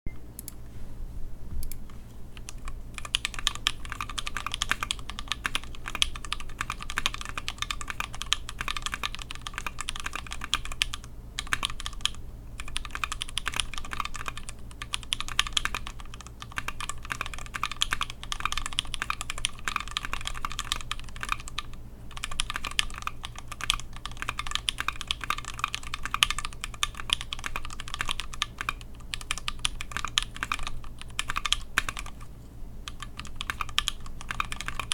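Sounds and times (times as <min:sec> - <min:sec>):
mechanical keyboard typing: 0:02.4 - 0:34.9.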